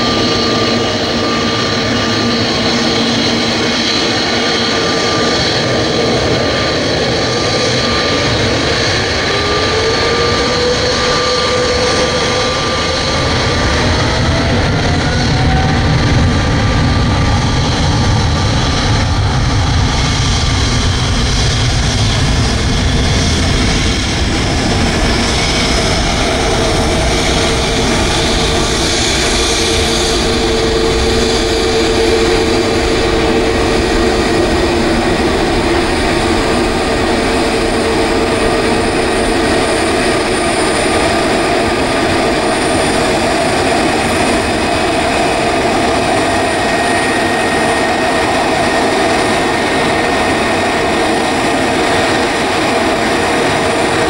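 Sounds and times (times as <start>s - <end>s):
deep steady jet roar: 0.0s - 54.0s
jet engines spooling up: 0.0s - 54.0s.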